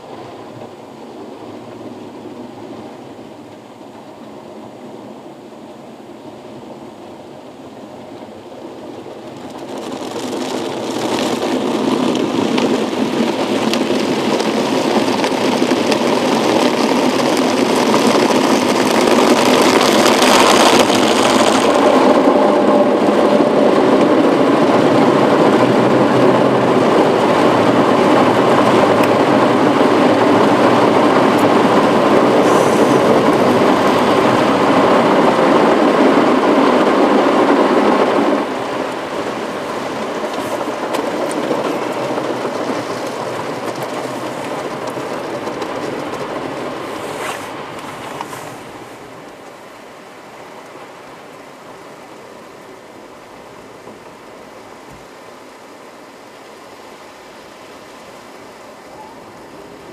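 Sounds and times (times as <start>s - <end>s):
car wash water spraying: 0.0s - 59.9s.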